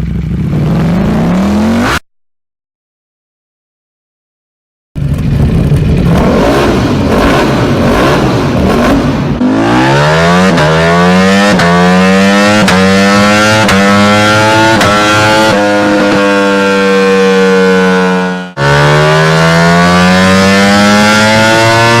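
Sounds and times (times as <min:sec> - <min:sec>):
motorcycle engine revving: 0:00.0 - 0:02.0, 0:05.0 - 0:22.0.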